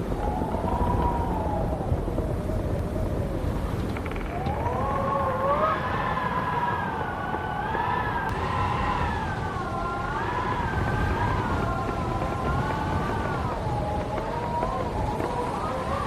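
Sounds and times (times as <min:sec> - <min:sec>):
wind howling: 0:00.0 - 0:16.0.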